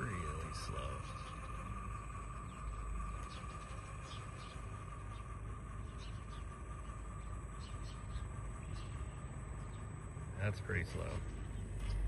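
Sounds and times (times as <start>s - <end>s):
toy motor and gears whining: 0.0s - 12.0s.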